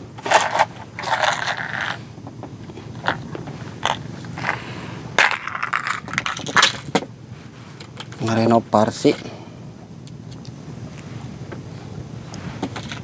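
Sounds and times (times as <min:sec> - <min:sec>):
scraping rustles: 0:00.1 - 0:09.3, 0:10.9 - 0:13.0.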